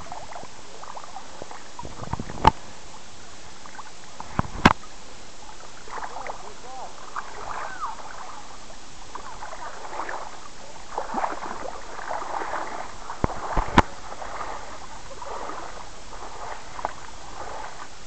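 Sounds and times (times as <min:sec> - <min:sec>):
river water lapping and gurgling: 0:00.0 - 0:18.0.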